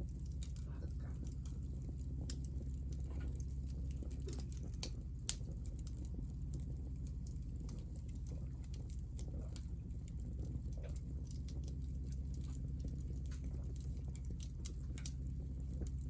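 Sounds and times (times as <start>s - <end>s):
fire crackles and pops: 0.0s - 16.0s
low rush of flame: 0.0s - 16.0s.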